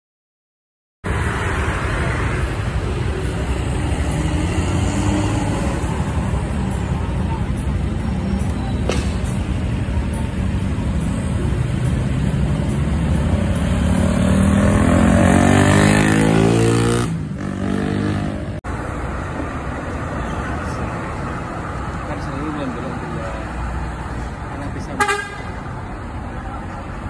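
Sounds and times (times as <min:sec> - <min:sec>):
road traffic: 0:01.0 - 0:27.0.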